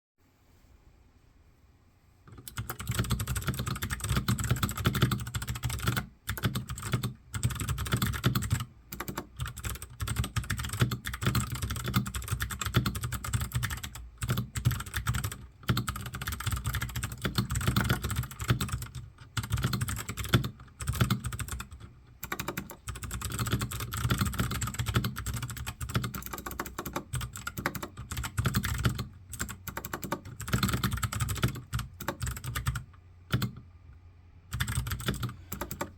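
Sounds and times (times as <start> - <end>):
fast typing on mechanical keyboard: 2.3 - 33.6, 34.5 - 35.9.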